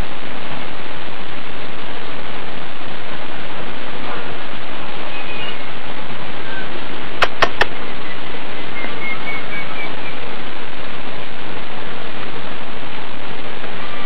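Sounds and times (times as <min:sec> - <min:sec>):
loud steady hiss: 0:00.0 - 0:14.0.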